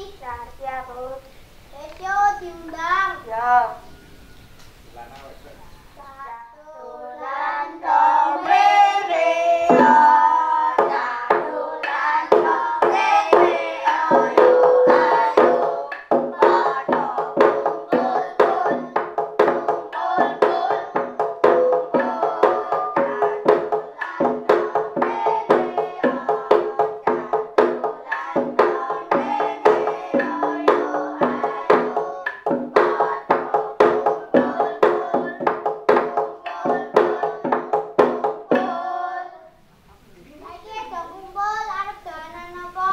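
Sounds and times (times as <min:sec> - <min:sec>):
voices singing: 0:00.0 - 0:42.9.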